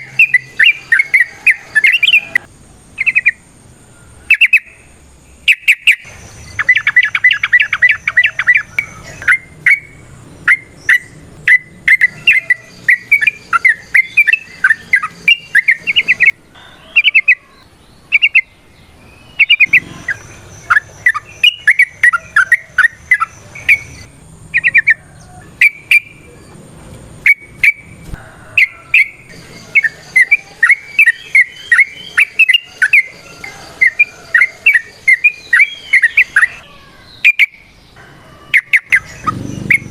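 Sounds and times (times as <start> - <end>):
bird singing bubbly chatter: 0.0 - 39.9.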